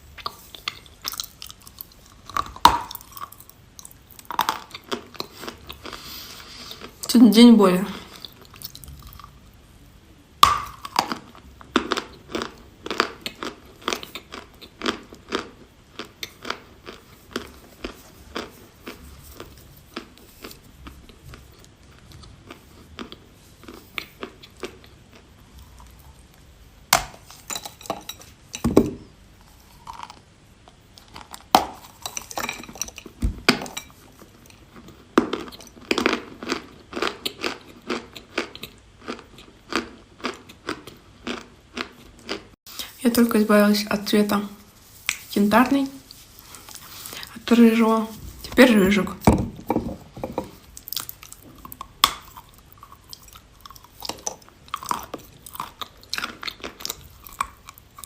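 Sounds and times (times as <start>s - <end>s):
person chewing: 0.0s - 7.1s, 8.0s - 43.0s, 44.6s - 45.4s, 46.0s - 47.5s, 49.6s - 58.0s.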